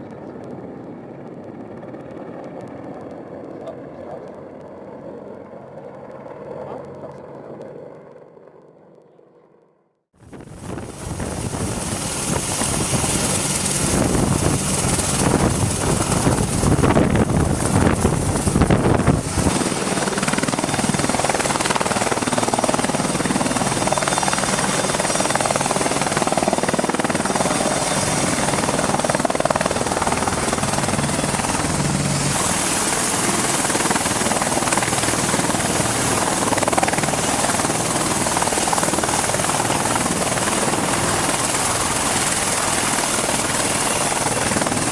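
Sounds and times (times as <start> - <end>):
helicopter rotor and turbine engine: 0.0 - 44.9.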